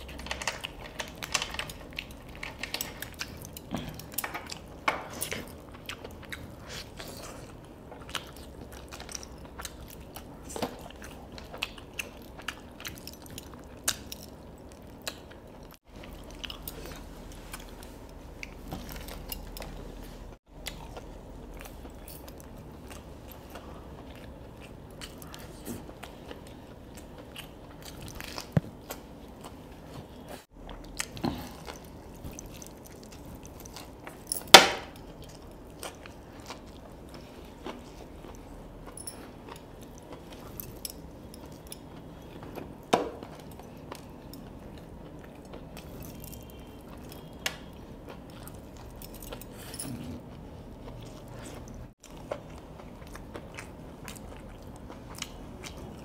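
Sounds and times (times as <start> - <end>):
chewing crispy fried chicken: 0.0 - 34.2, 35.0 - 56.0.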